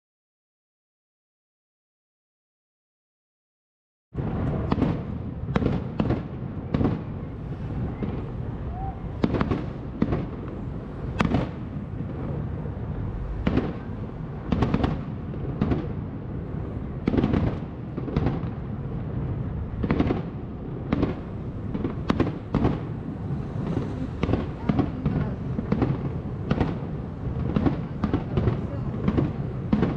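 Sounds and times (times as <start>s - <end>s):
low rumble: 4.2s - 29.8s
fireworks bangs and crackles: 4.2s - 29.9s.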